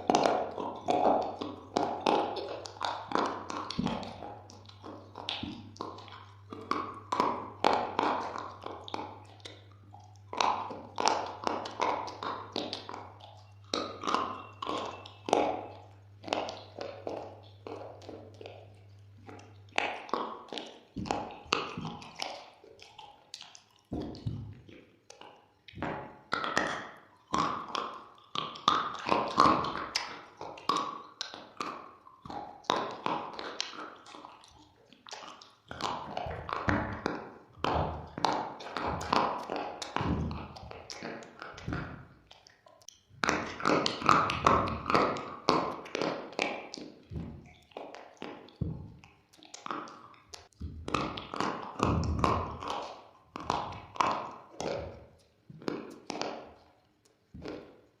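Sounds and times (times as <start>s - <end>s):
person chewing something crunchy: 0.0s - 58.0s.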